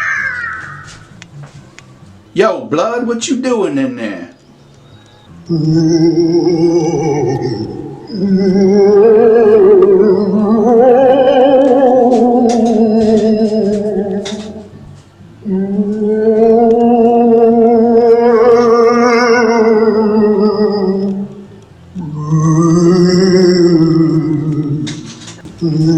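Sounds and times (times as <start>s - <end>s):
eerie wavering voice: 0.0s - 1.2s, 3.9s - 25.9s.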